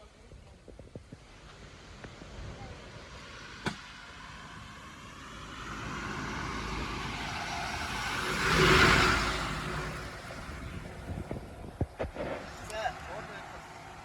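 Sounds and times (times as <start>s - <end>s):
motor vehicle passing by: 1.2s - 14.0s.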